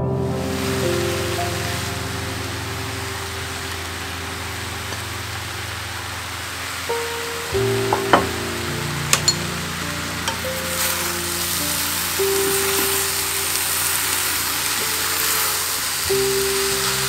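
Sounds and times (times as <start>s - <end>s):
background music: 0.0s - 17.0s
vegetables sizzling in a frying pan: 0.5s - 17.0s.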